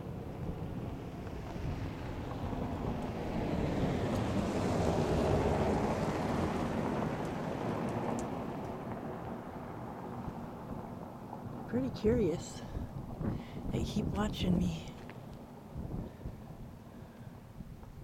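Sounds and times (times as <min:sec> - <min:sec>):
wind gusting: 0:00.0 - 0:18.0.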